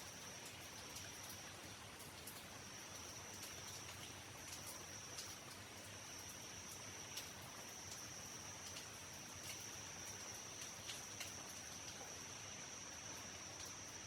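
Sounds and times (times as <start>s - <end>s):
rain dripping: 0.0s - 14.0s
sharp drip ticks: 0.1s - 12.2s
high-pitched insect trill: 2.5s - 14.0s.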